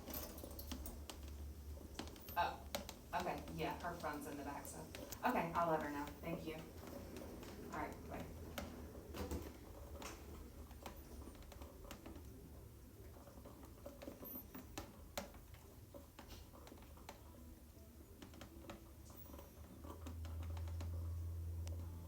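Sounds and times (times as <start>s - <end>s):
light clicks and scratches: 0.0s - 22.0s.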